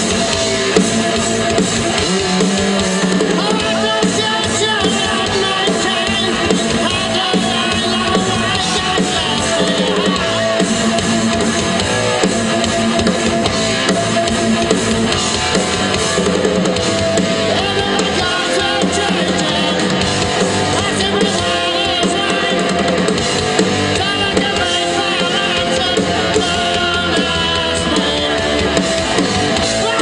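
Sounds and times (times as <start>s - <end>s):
drum kit: 0.0s - 30.0s
electric guitar: 0.0s - 30.0s
rock band playing live: 0.0s - 30.0s.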